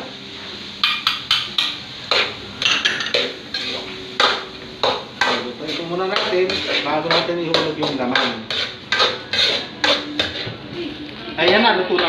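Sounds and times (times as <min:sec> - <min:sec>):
spatula scraping and knocking wok: 0:00.8 - 0:10.7.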